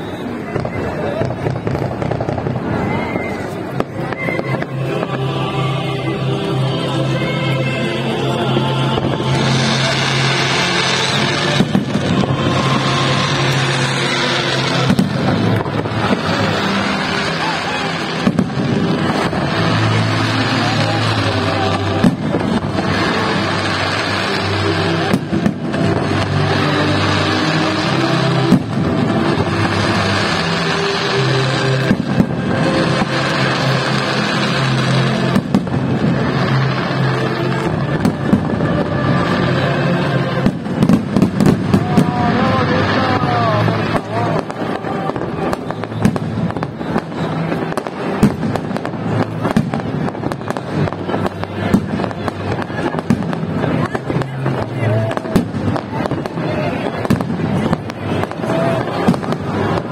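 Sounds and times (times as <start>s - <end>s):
firework bangs: 0.0s - 59.9s
music playing: 0.0s - 59.9s
steady rush of noise: 0.0s - 59.9s.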